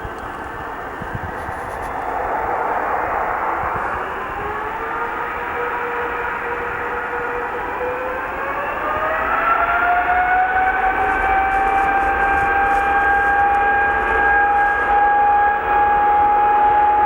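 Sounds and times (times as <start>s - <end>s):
jet engines spooling up: 0.0s - 16.4s.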